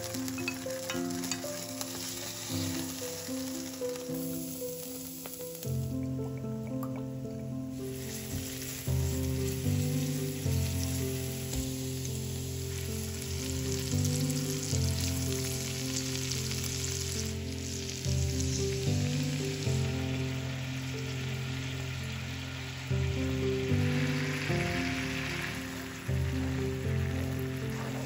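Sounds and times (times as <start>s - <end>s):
background music: 0.0s - 28.0s
food sizzling in hot oil: 0.0s - 28.0s.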